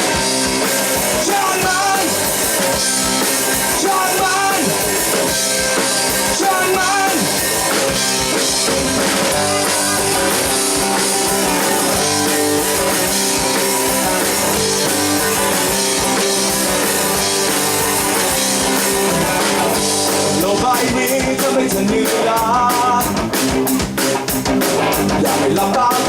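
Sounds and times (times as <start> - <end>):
bass guitar: 0.0 - 26.0
drum kit: 0.0 - 26.0
electric guitar: 0.0 - 26.0.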